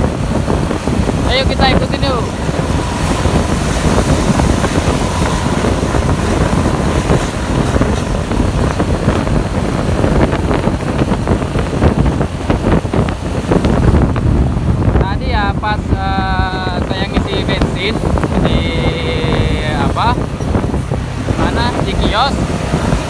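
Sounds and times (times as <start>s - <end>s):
bus exhaust running loud: 0.0s - 23.0s
road noise: 0.0s - 23.0s
uneven low pulses: 0.0s - 23.0s
wind: 0.0s - 23.0s.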